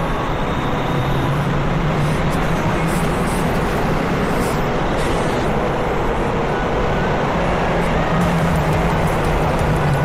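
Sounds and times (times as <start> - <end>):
escalator rumbling and humming: 0.0 - 10.0
metro station noise: 0.0 - 10.0.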